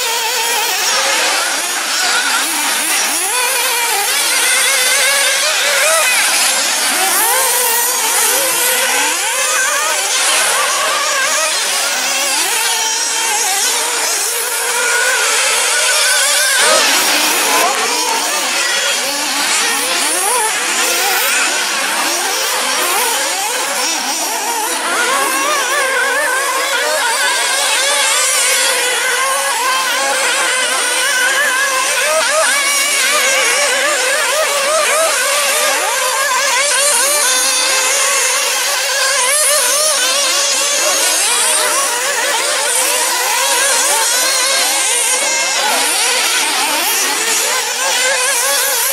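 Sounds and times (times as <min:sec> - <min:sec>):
rc buggy engines whining: 0:00.0 - 0:48.9.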